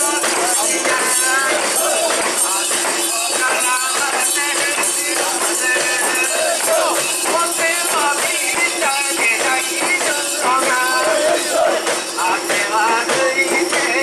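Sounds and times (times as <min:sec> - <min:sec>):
crowd chanting and calling: 0:00.0 - 0:14.0
metallic jingling: 0:00.0 - 0:14.0.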